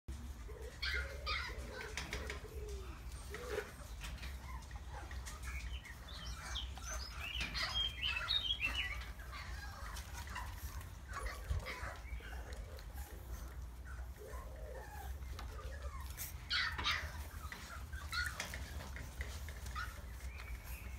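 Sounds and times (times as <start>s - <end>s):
small birds chirping: 0.5s - 20.9s.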